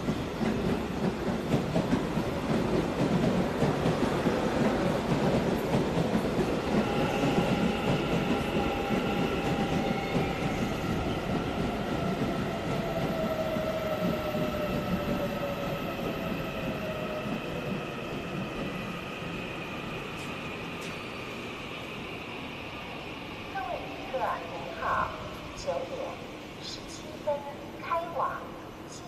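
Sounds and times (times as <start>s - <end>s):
train wheels rumbling on track: 0.0s - 27.3s.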